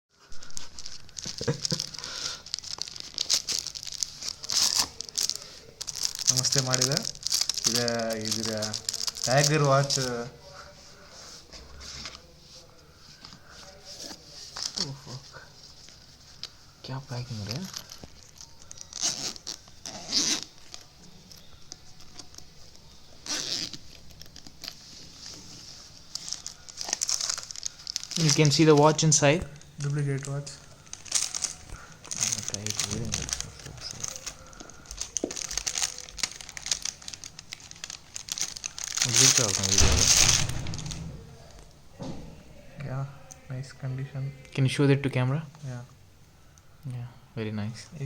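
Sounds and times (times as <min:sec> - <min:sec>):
packaging crinkling and tearing: 0:00.3 - 0:10.3, 0:13.2 - 0:41.7.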